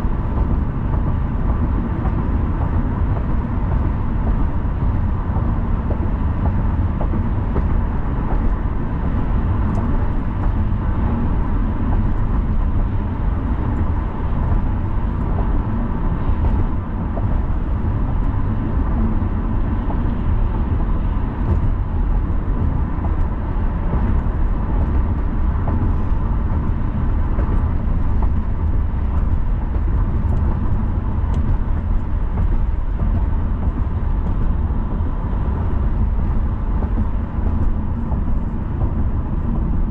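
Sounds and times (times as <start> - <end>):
low engine rumble: 0.0 - 39.9
road and tyre noise: 0.0 - 39.9.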